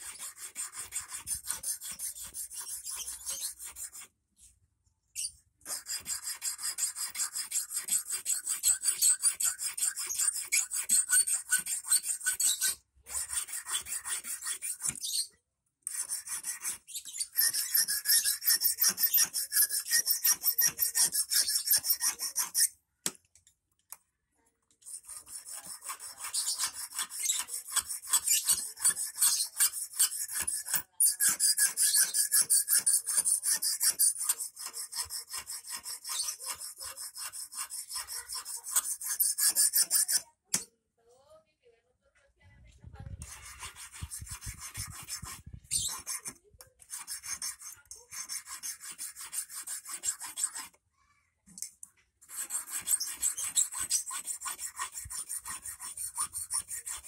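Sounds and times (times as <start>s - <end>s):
hand file rasping on wire: 0.0s - 4.1s, 5.2s - 22.8s, 24.8s - 40.7s, 43.2s - 50.8s, 52.2s - 57.0s.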